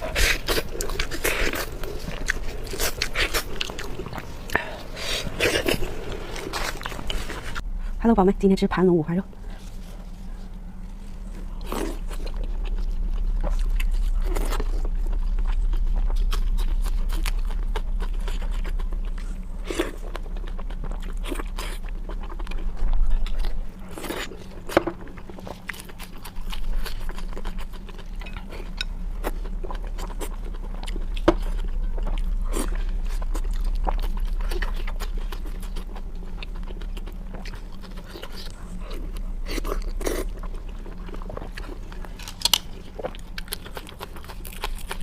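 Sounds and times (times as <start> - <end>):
chewing with wet mouth smacks: 0.0 - 7.6, 11.2 - 45.0
steady low hum: 0.0 - 45.0.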